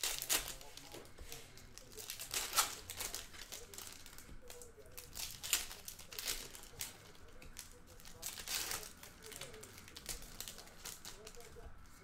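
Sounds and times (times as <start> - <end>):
foil wrappers crinkling: 0.0 - 12.0.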